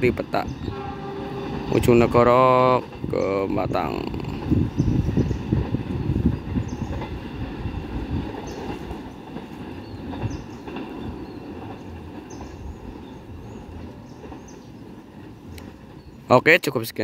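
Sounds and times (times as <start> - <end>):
freight train rumbling on track: 0.0 - 17.0.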